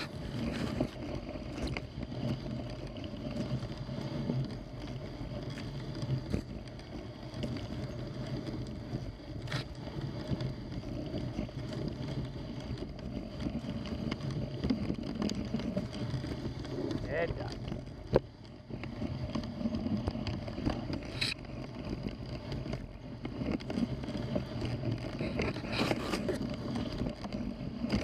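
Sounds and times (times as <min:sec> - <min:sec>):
sled runners rushing through snow: 0:00.0 - 0:28.0.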